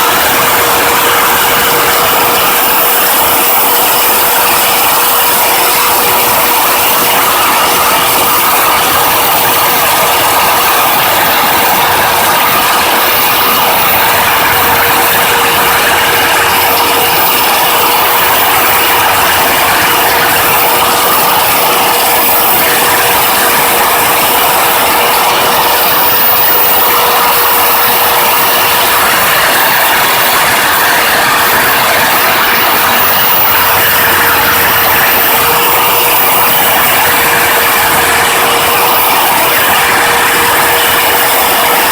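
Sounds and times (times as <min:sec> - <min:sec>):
cutting noise: 0:00.0 - 0:41.9
gear whine: 0:00.0 - 0:41.9
lathe running: 0:00.0 - 0:41.9.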